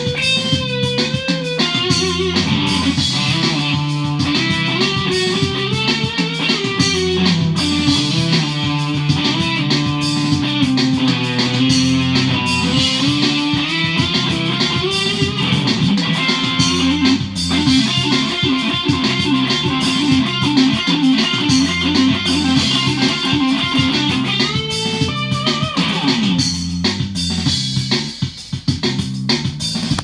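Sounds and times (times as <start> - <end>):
electric guitar lead: 0.0 - 27.0
backing track of bass and drums: 0.0 - 30.0.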